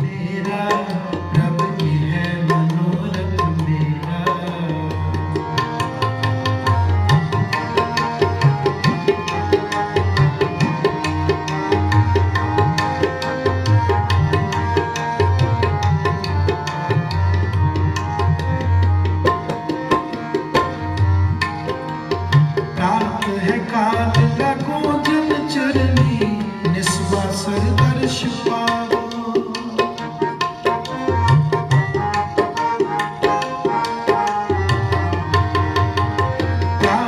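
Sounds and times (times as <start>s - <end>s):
tabla playing: 0.0s - 37.0s.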